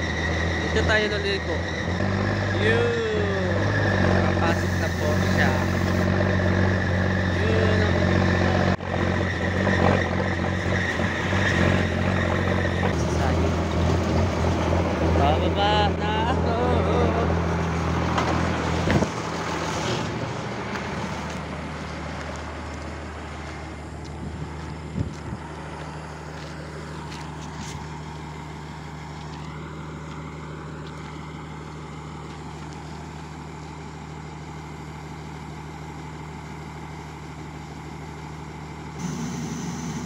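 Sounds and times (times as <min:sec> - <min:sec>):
truck engine low hum: 0:00.0 - 0:40.0.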